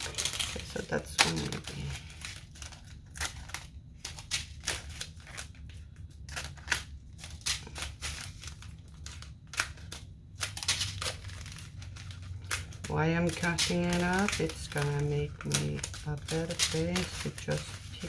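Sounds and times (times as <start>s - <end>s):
scissors snipping plastic: 0.0s - 18.0s.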